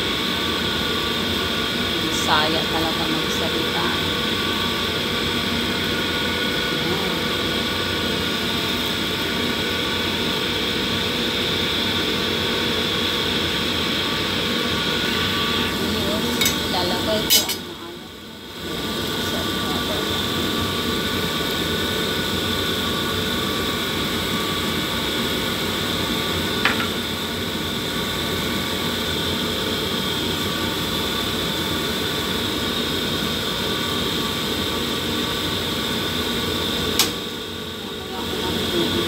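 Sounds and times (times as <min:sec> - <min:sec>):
fan motor whirring: 0:00.0 - 0:39.0.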